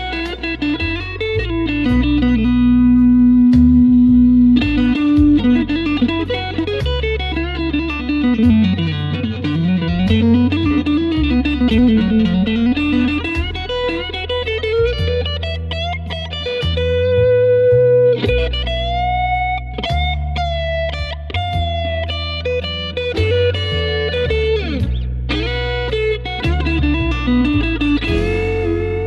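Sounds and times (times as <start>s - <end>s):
backing track with bass line: 0.0s - 29.0s
blues lead electric guitar: 0.0s - 29.0s.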